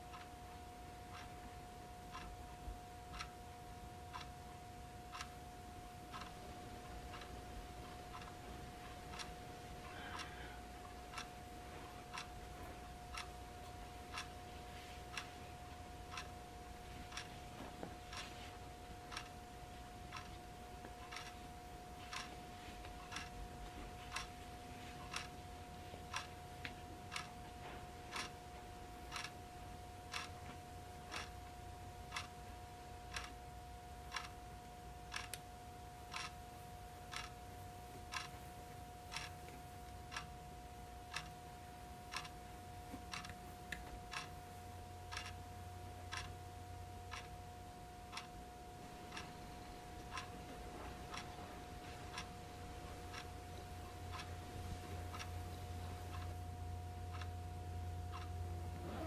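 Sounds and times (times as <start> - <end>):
clock ticking: 0.0 - 59.0
faint steady hum: 0.0 - 59.0.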